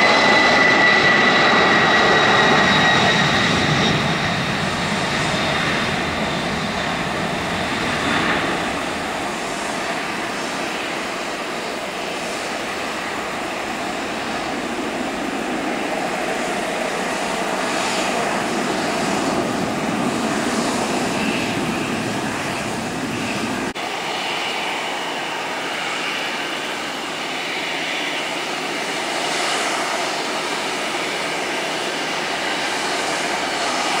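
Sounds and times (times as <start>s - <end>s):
jet engines at takeoff: 0.0s - 34.0s.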